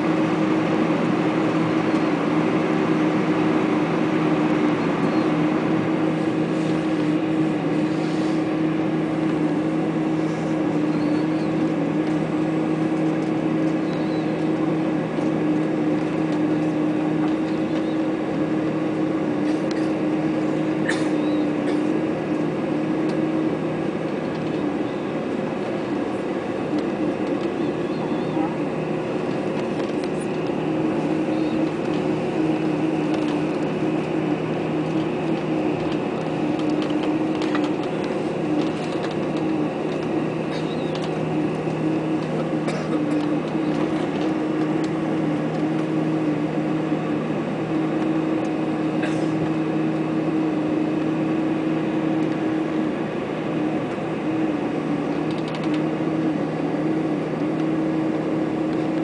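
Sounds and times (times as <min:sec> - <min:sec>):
aircraft engines idling in cabin: 0:00.0 - 0:59.0.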